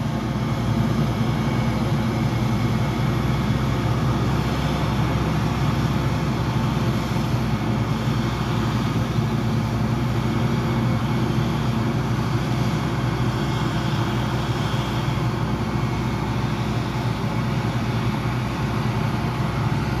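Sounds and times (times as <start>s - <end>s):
forage harvester droning: 0.0s - 20.0s
truck engine running: 0.0s - 20.0s.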